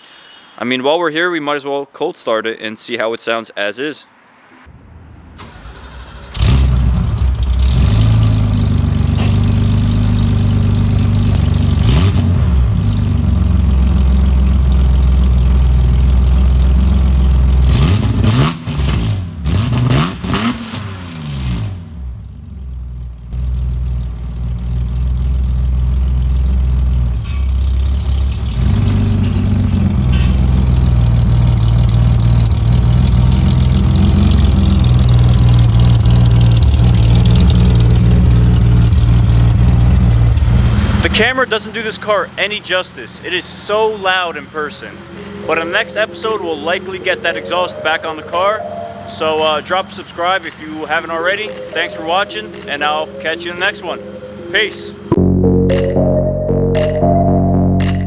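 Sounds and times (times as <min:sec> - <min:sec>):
car engine idling and revving: 0:04.3 - 0:58.0.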